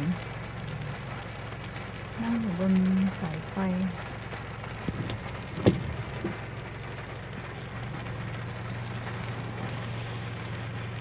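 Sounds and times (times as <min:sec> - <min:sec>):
low steady hum: 0:00.0 - 0:11.0
rain falling: 0:00.0 - 0:11.0.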